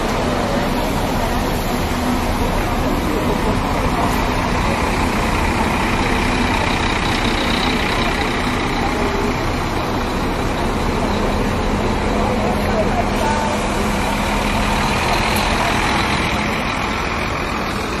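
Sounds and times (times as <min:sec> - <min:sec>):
coach diesel engines running: 0:00.0 - 0:18.0.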